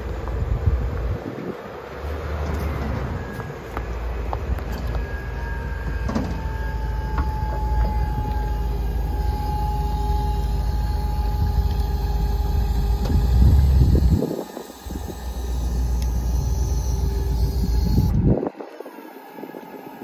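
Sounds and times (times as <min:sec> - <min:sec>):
truck engine idling: 0:00.0 - 0:18.4.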